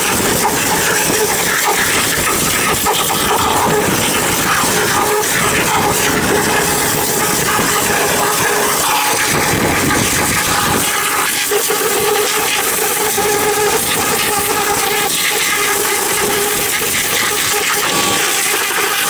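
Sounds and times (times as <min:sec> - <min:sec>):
pressure washer machine hum: 0:00.0 - 0:19.0
pressure washer water jet hissing: 0:00.0 - 0:19.0.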